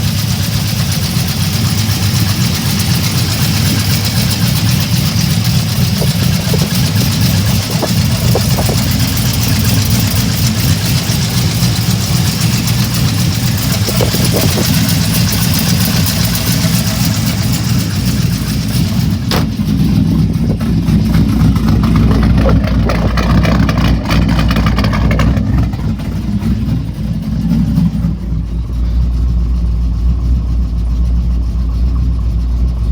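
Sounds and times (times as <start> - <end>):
engine running with rapid ticking: 0.0 - 32.9.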